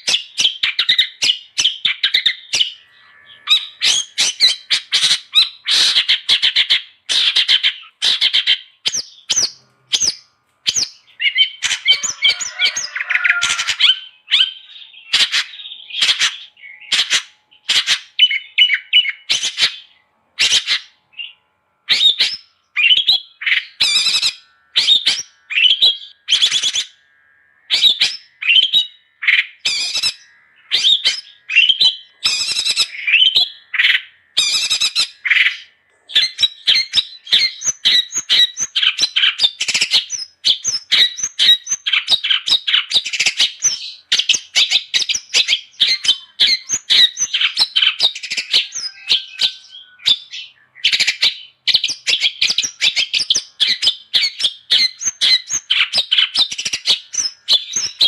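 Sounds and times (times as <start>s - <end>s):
bird harsh chattering song: 0.0s - 58.0s.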